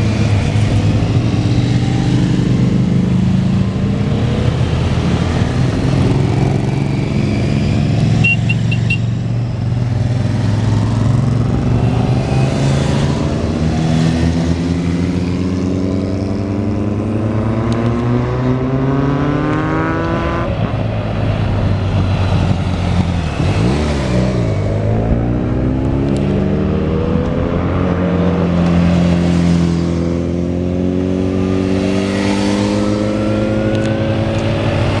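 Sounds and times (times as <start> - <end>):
motorcycle engines accelerating: 0.0 - 35.0.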